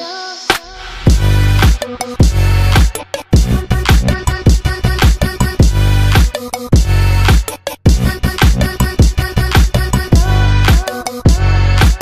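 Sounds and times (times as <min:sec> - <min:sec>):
electronic music with heavy beat: 0:00.0 - 0:12.0.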